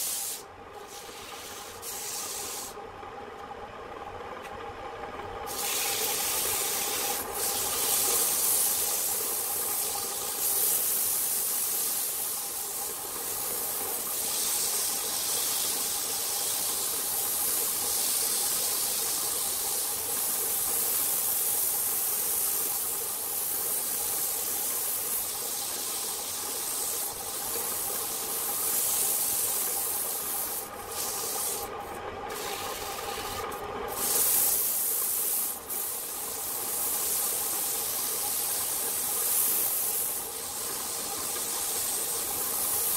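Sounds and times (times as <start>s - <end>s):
sandpaper rubbing hiss on wood: 0.0s - 2.8s, 5.5s - 31.7s, 32.3s - 42.9s.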